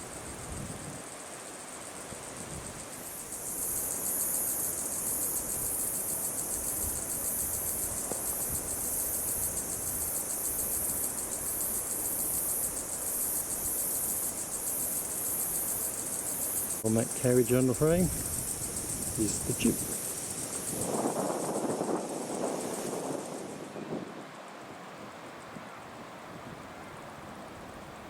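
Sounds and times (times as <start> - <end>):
insects trilling: 0.0 - 26.2.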